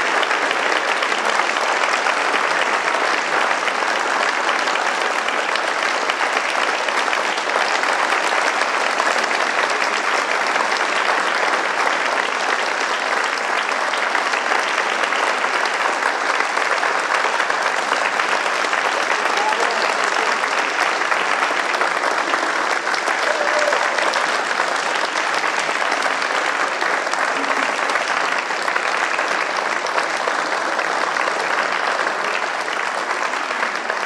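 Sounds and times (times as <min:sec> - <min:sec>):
audience applauding: 0:00.0 - 0:34.0.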